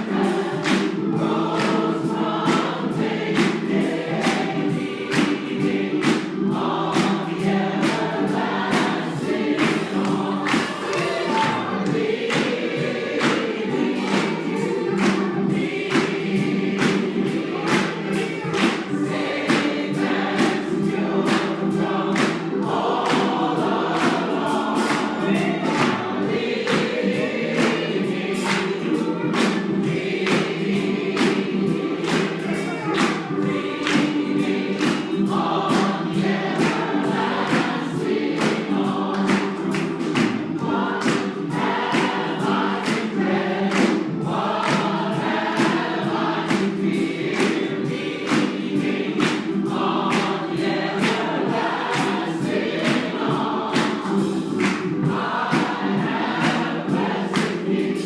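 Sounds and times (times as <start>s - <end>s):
congregation singing gospel song: 0.0s - 58.0s
percussive beat: 0.0s - 58.0s.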